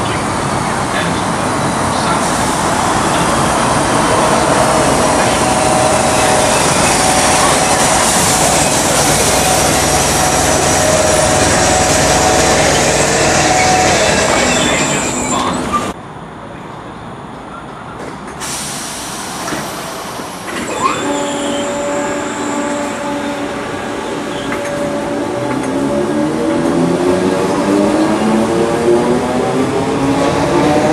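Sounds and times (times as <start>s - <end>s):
train passing close by: 0.0s - 30.9s
train whine climbing in pitch: 2.2s - 16.0s, 18.6s - 30.9s.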